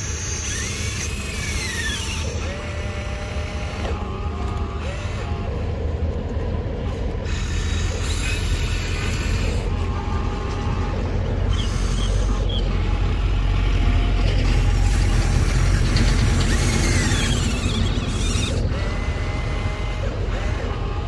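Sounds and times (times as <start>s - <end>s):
small electric motors whining: 0.0s - 21.0s.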